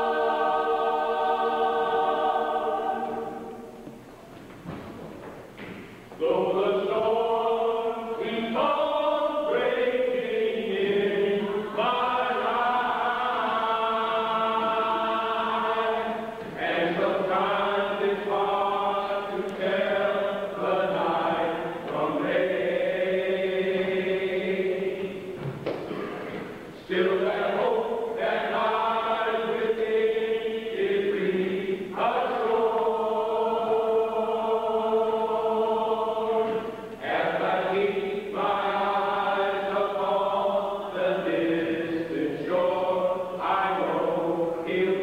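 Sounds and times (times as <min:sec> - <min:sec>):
church choir singing: 0:00.0 - 0:04.0, 0:06.2 - 0:45.0.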